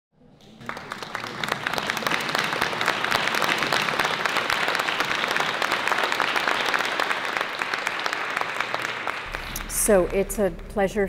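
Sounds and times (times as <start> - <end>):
audience applauding: 0.4 - 10.9.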